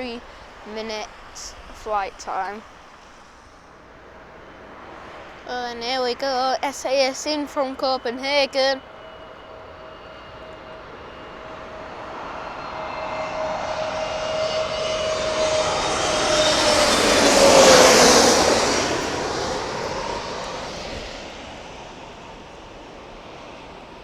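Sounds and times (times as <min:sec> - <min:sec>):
jet airliner passing overhead: 0:00.0 - 0:24.0.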